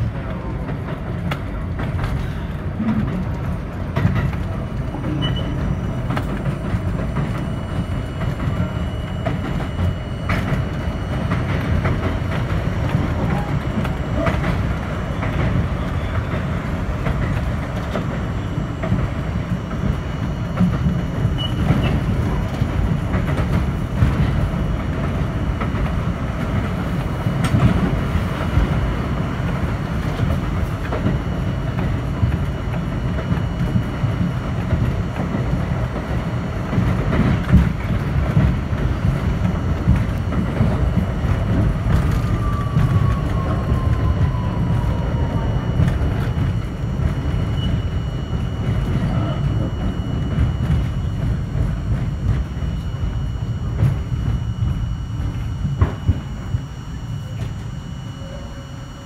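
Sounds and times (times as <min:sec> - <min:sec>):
rail joint clicks: 0:00.0 - 0:57.7
train wheels rumbling on rail: 0:00.0 - 0:59.0.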